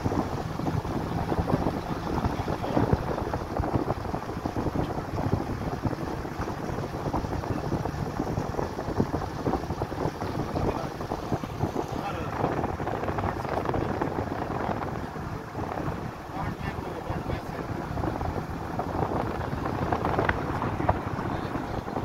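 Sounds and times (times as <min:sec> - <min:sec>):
car road and engine noise: 0:00.0 - 0:22.0
wind buffeting microphone: 0:00.0 - 0:22.0.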